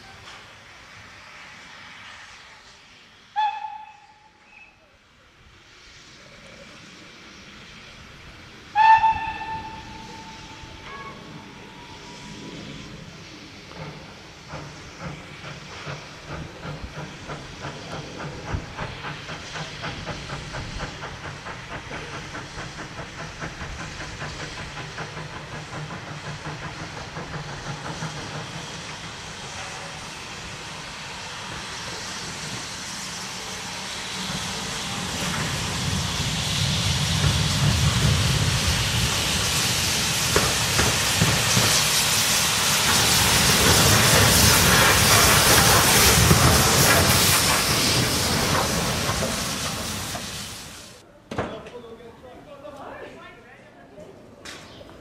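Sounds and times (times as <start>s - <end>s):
loud hiss of steam: 0.0s - 51.0s
steam locomotive chuffing: 0.0s - 51.0s.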